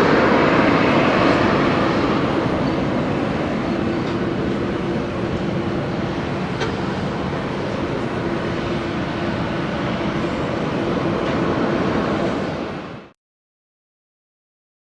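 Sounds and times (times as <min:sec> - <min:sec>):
jet engines running: 0:00.0 - 0:13.1.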